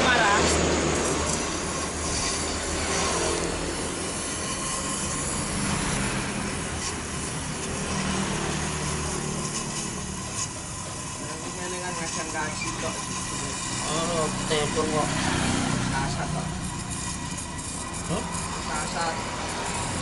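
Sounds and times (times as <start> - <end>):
gas welding torch hissing: 0.0 - 20.0.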